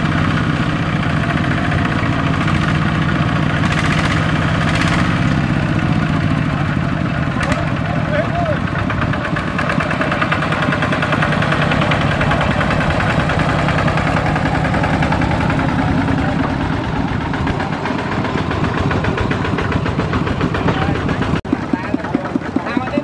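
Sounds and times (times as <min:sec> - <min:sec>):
diesel engine chugging: 0:00.0 - 0:23.0.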